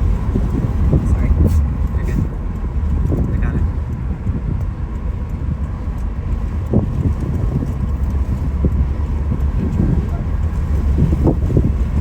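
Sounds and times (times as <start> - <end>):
road and engine rumble: 0.0 - 12.0
wind noise: 0.0 - 12.0.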